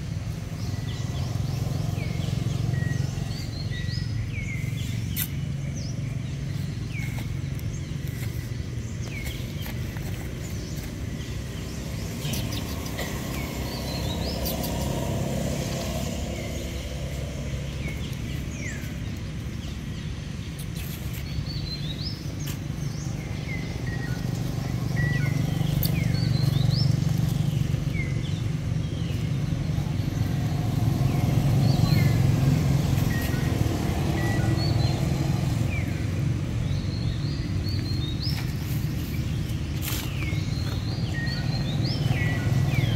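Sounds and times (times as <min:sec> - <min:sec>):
birds chirping: 0:00.0 - 0:42.9
low engine rumble: 0:00.0 - 0:42.9.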